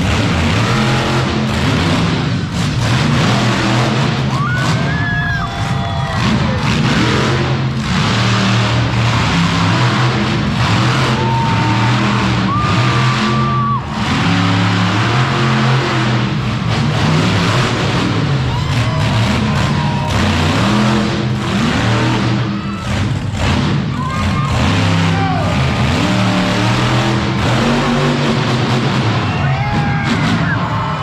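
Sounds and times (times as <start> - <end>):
monster truck engine running: 0.0 - 31.0.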